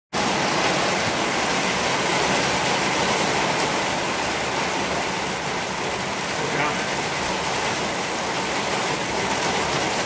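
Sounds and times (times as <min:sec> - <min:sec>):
rain falling steadily: 0:00.2 - 0:10.0.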